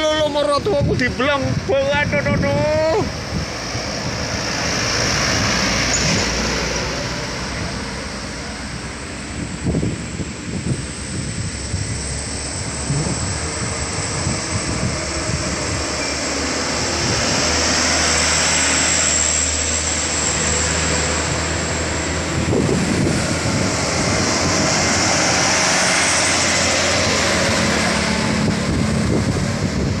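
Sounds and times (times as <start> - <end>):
diesel trucks passing: 0.0 - 30.0
tyre and road noise: 0.0 - 30.0.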